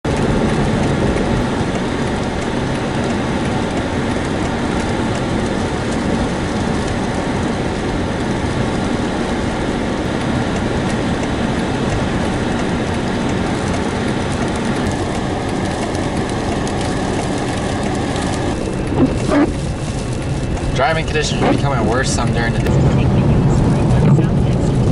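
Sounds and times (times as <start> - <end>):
car road noise: 0.0 - 24.9.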